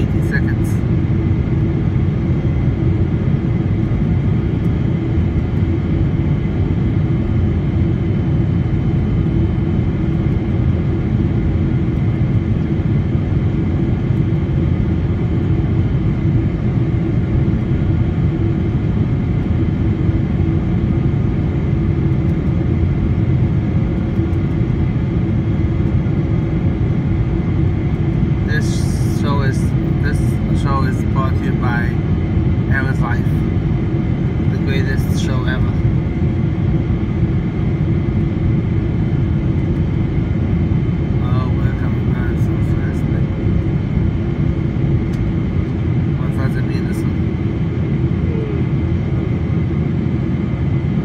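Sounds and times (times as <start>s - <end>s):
jet engine and airflow rumble: 0.0s - 51.0s.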